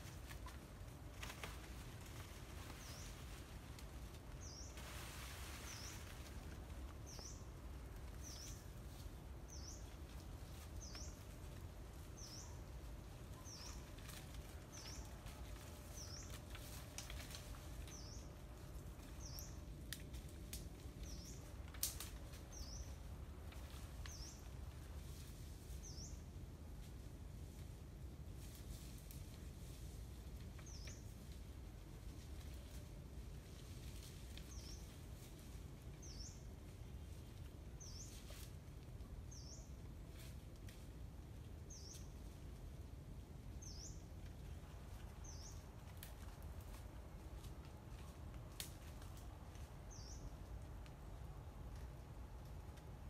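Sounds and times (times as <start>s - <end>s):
faint low rumble: 0.0s - 53.0s
rustle: 0.0s - 53.0s.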